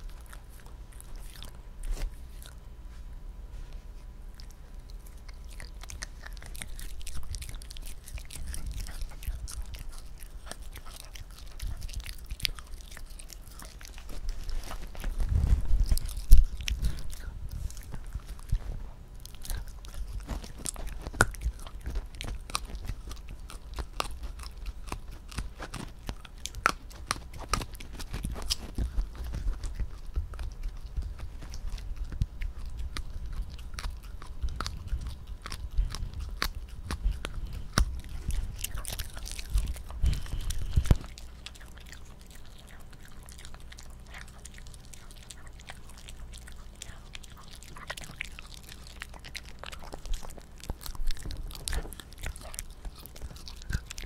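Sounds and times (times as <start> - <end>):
dog chewing and gnawing: 0.0 - 54.0.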